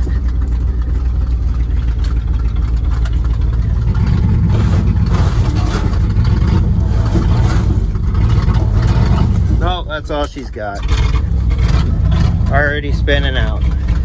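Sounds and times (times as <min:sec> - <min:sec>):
truck engine revving under load: 0:00.0 - 0:14.0.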